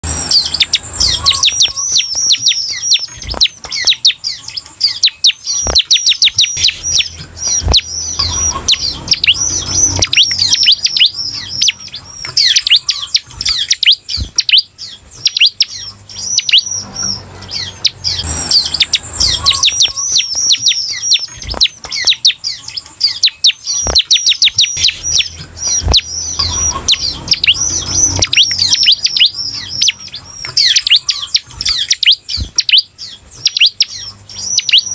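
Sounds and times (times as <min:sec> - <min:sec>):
bird singing rapid chatter: 0:00.0 - 0:34.9.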